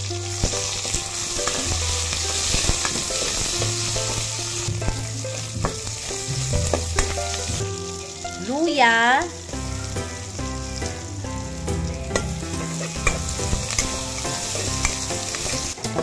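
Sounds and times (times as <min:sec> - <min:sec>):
onion and garlic sizzling in oil: 0:00.0 - 0:16.0.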